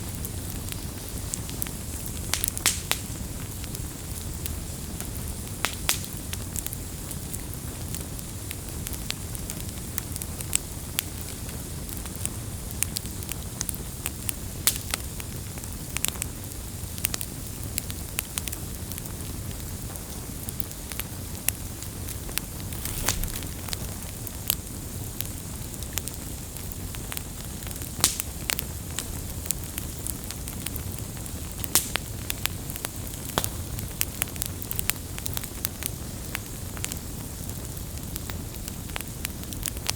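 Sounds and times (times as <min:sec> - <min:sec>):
burning wood crackling and popping: 0:00.0 - 0:39.9
campfire rumble and hiss: 0:00.0 - 0:39.9.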